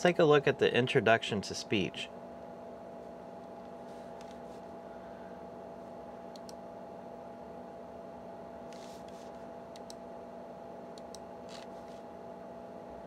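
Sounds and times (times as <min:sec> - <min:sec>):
computer fan humming: 0:00.0 - 0:13.0.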